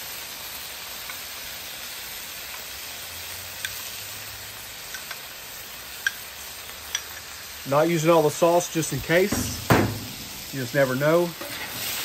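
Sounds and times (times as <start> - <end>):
sauce sizzling on hot griddle: 0.0 - 12.0.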